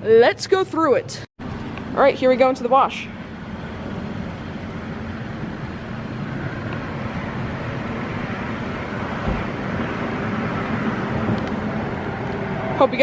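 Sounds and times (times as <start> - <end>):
car engine low rumble: 1.4 - 13.0.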